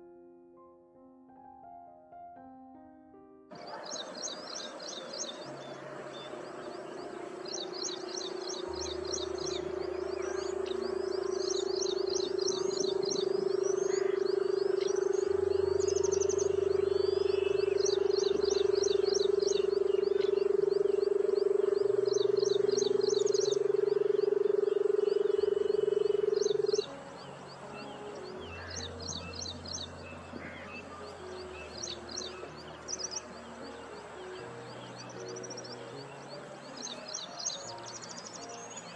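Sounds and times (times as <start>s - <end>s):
high bird chirps: 3.6s - 38.9s
background music with bass: 6.8s - 38.9s.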